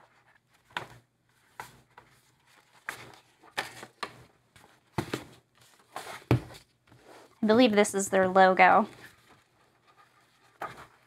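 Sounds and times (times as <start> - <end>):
paper rustling: 0.0 - 7.4, 8.8 - 11.0.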